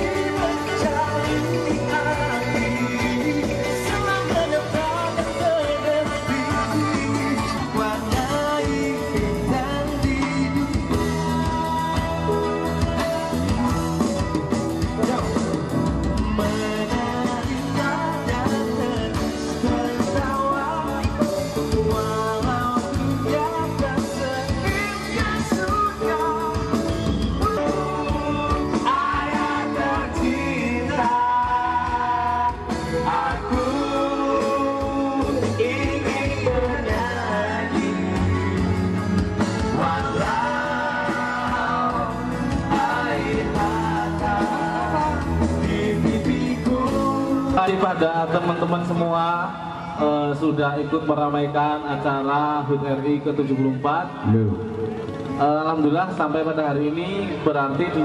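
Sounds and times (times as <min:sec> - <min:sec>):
men singing along: 0:00.0 - 0:14.0, 0:14.9 - 0:47.9
acoustic guitar: 0:00.0 - 0:52.1
electric guitar: 0:00.0 - 0:58.0
keyboard: 0:00.0 - 0:58.0
male lead vocals: 0:00.0 - 0:58.0.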